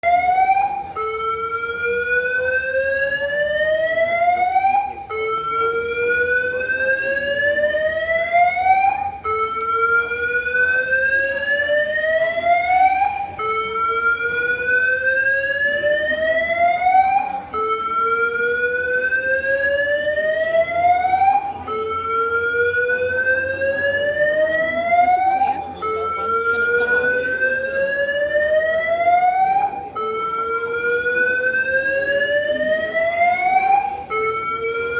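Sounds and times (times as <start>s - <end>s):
alarm siren rising tone: 0.0s - 34.9s.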